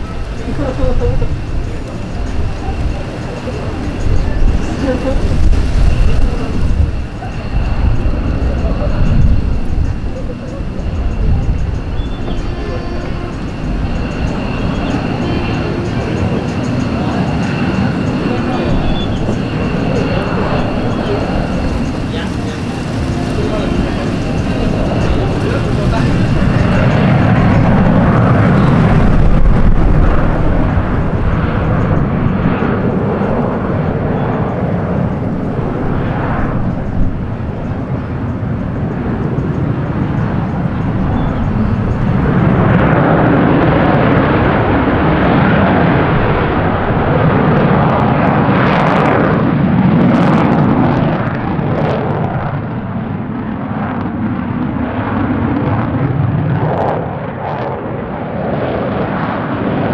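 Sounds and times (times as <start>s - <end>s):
jet engine noise: 0.0s - 59.9s.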